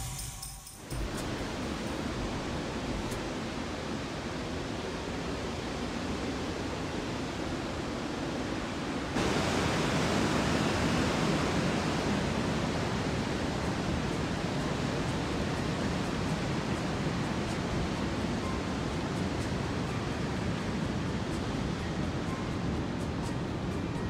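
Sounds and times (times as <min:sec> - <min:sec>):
mountain river rushing: 0:00.8 - 0:24.0.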